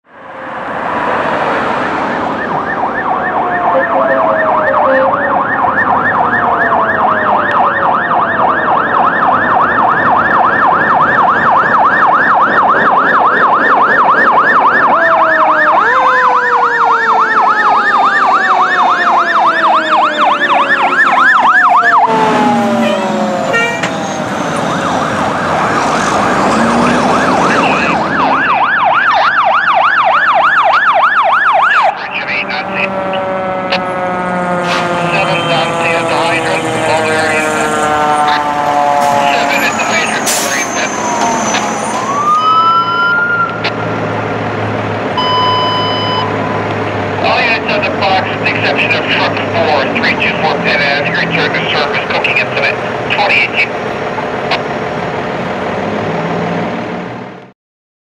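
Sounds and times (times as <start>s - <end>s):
falling siren tones: 0.1s - 57.0s
electronic siren yelping: 1.4s - 43.8s, 45.2s - 53.8s.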